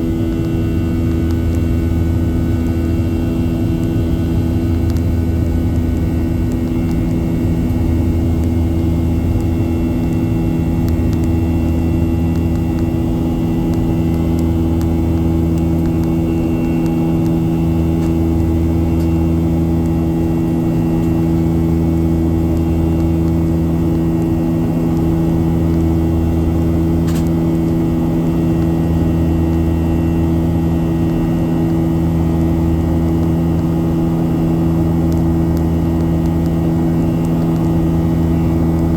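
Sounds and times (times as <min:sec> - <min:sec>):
jet engines droning in cabin: 0:00.0 - 0:38.9.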